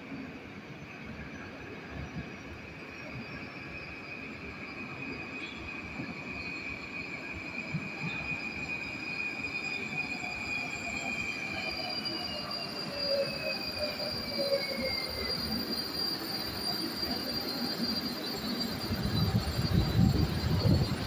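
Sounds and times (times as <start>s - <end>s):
metro train braking whine: 0.0s - 21.0s
train wheels rolling on track: 0.0s - 21.0s.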